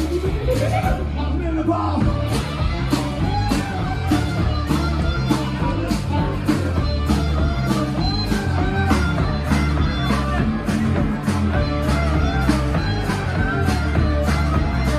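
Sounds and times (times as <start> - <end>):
bass guitar: 0.0 - 14.9
guitar: 0.0 - 14.9
live rock band playing: 0.0 - 14.9
steady drum beat: 0.0 - 14.9.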